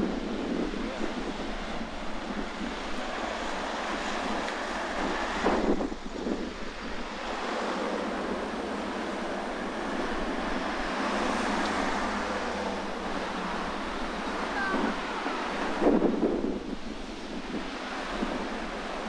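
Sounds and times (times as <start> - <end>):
sea waves washing on shore: 0.0 - 19.0
strong wind: 0.0 - 19.0.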